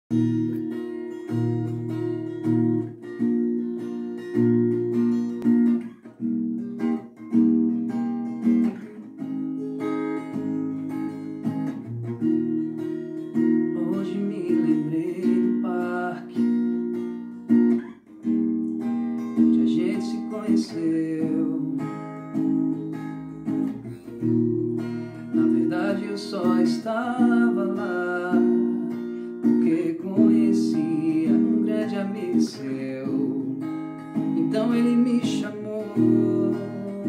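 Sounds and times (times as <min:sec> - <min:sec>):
acoustic guitar chords: 0:00.1 - 0:37.0.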